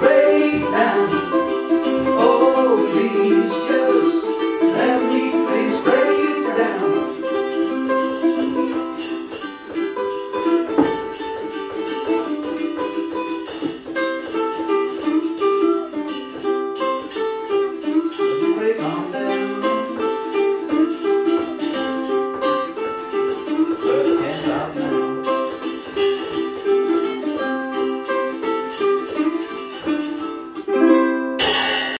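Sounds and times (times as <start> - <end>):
ukuleles strummed: 0.0 - 32.0.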